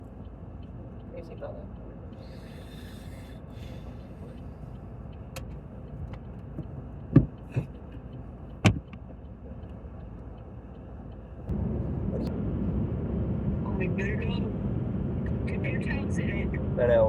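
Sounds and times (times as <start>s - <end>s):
car road rumble: 0.0s - 17.0s.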